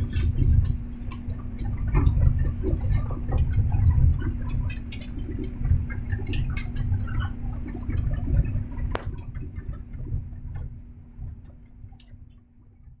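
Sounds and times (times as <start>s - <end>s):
heavy rain pattering on cab: 0.0s - 12.0s
low rumble and steady hum: 0.0s - 13.0s.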